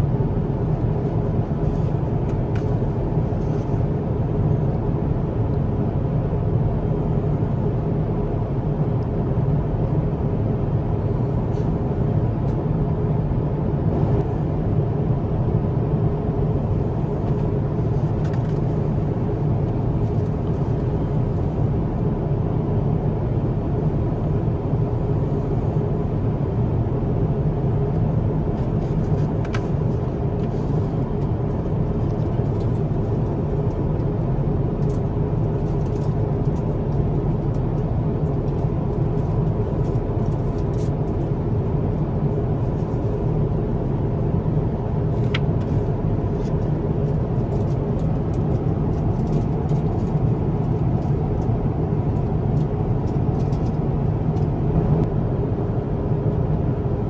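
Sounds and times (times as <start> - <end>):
aircraft cabin engine roar: 0.0 - 57.0.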